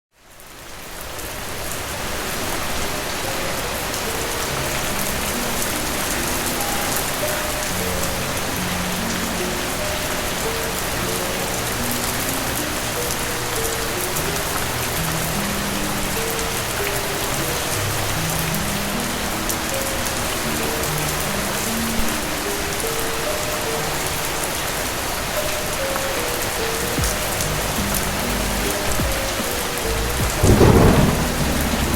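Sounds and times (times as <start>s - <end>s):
steady rain falling: 0.1s - 31.9s
slow soft music melody: 0.4s - 31.9s.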